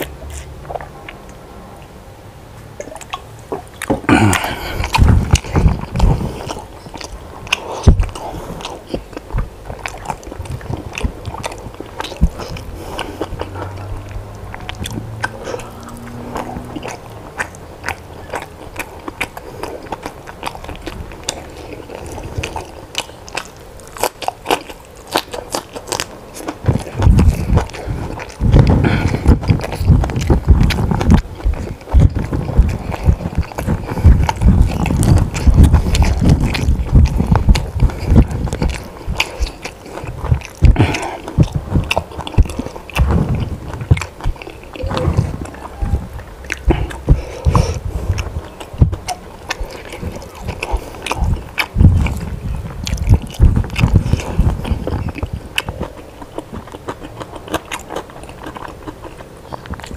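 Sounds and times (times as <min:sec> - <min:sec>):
person chewing crunchy food: 0:00.0 - 0:02.0, 0:02.8 - 0:59.9.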